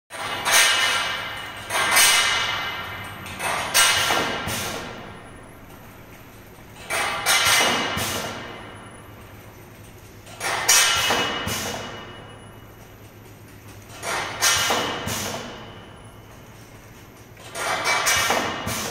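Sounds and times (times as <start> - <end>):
machine clattering: 0.1 - 18.9
low machine hum: 0.2 - 18.9.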